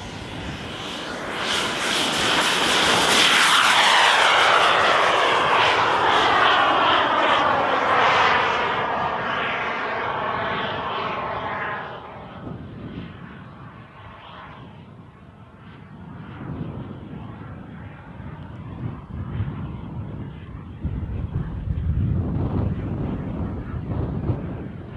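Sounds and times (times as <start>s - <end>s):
jet turbine whine passing: 0.0s - 24.9s.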